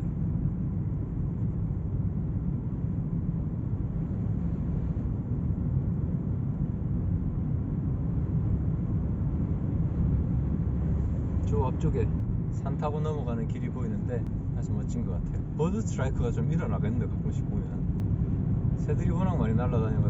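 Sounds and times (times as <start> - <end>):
van road and engine rumble: 0.0 - 20.0.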